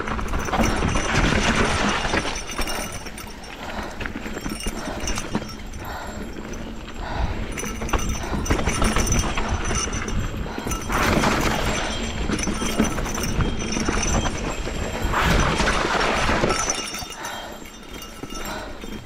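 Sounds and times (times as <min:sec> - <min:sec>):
bike rattling: 0:00.0 - 0:19.0.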